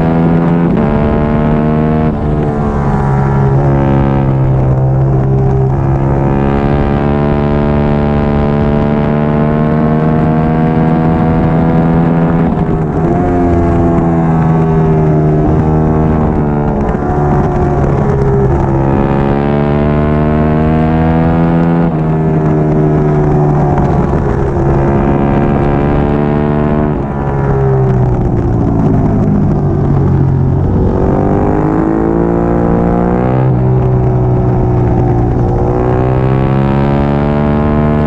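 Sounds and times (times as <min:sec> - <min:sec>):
wind rushing: 0:00.0 - 0:09.3, 0:10.2 - 0:36.9
motorcycle engine at high revs: 0:00.0 - 0:38.0.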